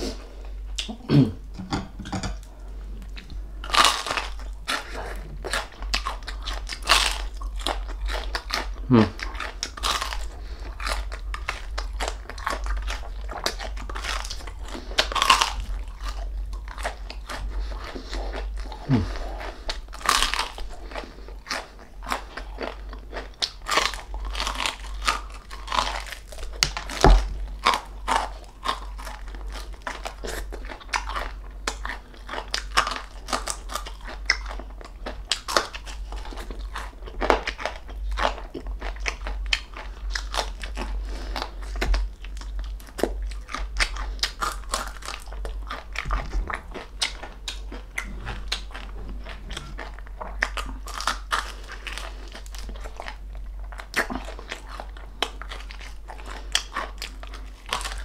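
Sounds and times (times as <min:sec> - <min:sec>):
crunching crispy skin: 0:03.1 - 0:58.0.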